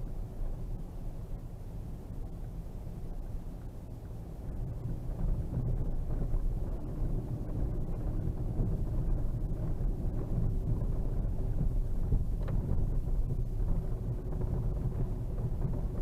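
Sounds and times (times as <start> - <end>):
car engine and tyres on snow: 0.0 - 16.0.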